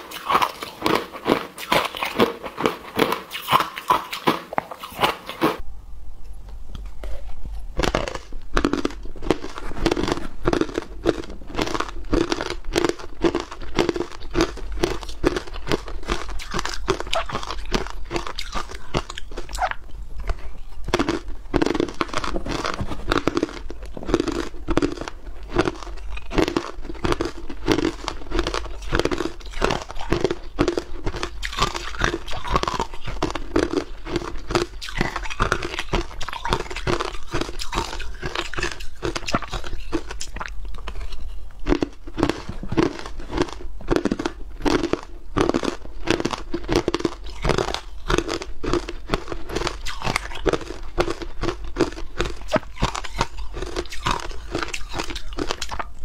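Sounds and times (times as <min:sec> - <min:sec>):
ice being chewed: 0:00.0 - 0:05.6, 0:06.8 - 0:56.0.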